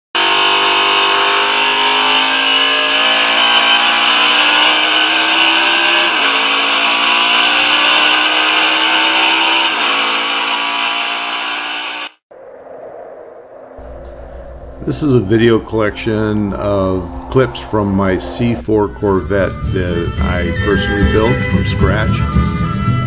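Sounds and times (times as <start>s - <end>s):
race car engine accelerating: 0.2s - 12.2s, 13.8s - 23.0s
gear upshifts: 0.2s - 21.5s.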